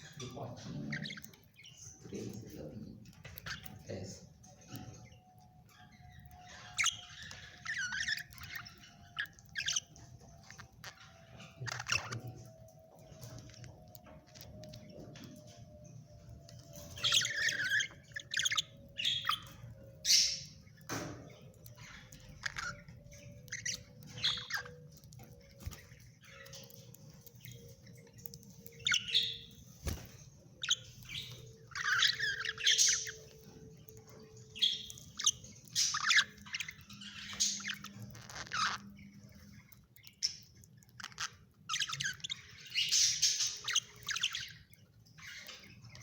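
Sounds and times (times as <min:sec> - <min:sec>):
parrots squawking and chirping: 0:00.0 - 0:46.0.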